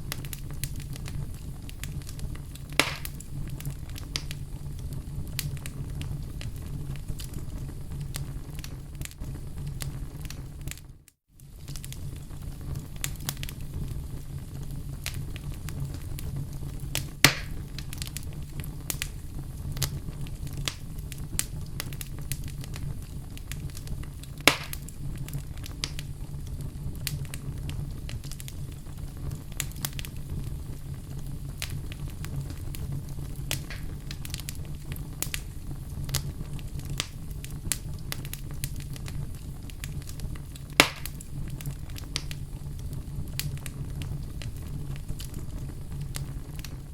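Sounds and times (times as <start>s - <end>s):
fire crackling: 0.0s - 46.9s
fire rumbling in fireplace: 0.0s - 46.9s
loud fire pops: 0.0s - 46.9s.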